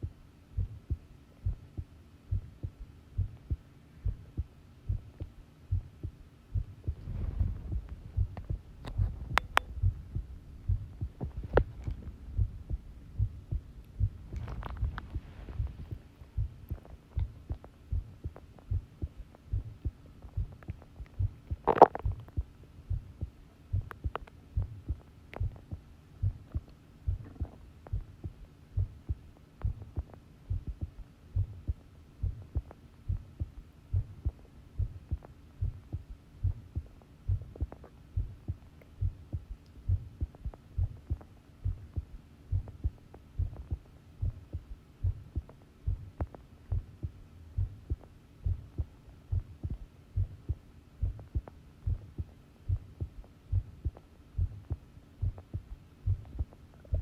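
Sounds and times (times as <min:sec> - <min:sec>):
faint steady hum: 0:00.0 - 0:57.0
heartbeat thuds: 0:00.0 - 0:57.0.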